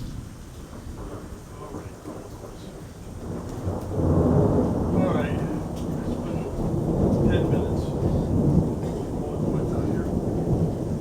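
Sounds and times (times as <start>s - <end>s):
rolling thunder: 0.0s - 11.0s.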